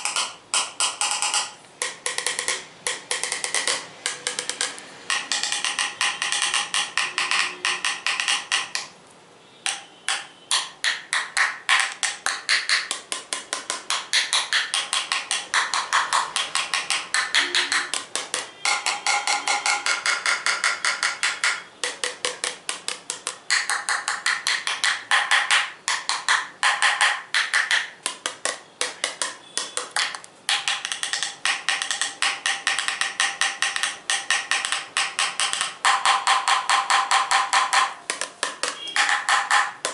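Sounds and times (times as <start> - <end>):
tapping on hard objects: 0.0 - 9.0, 9.6 - 39.9.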